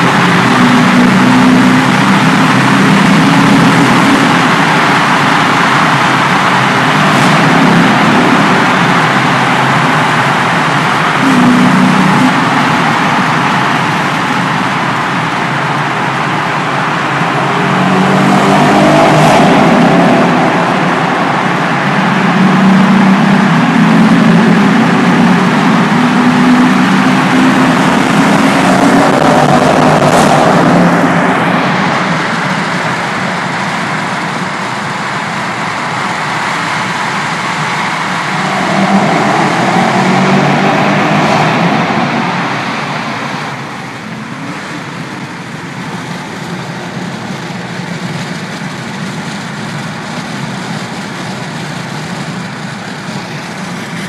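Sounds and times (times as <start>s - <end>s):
car engines running loud: 0.0s - 54.0s.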